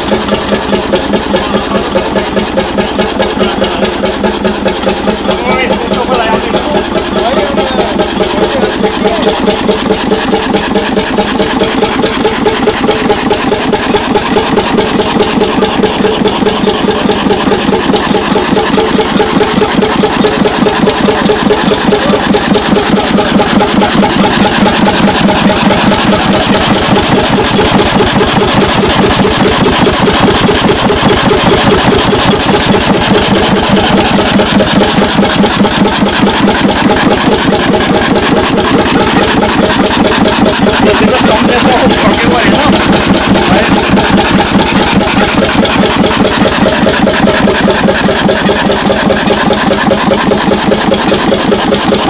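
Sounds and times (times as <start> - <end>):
two-stroke diesel engine running: 0.0 - 52.0.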